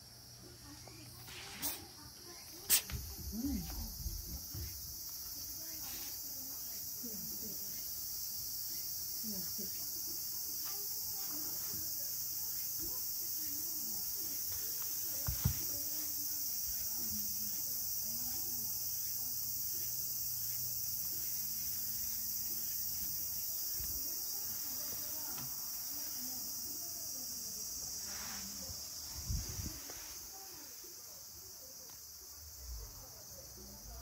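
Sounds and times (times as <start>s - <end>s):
insects chorus: 0.0s - 34.0s.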